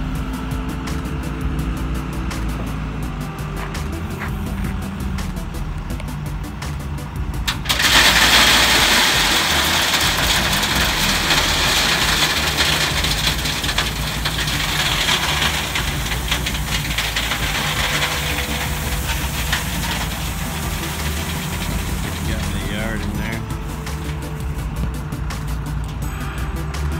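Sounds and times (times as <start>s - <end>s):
diesel engine running: 0.0s - 26.9s
gravel pouring rushing rattle: 0.0s - 26.9s.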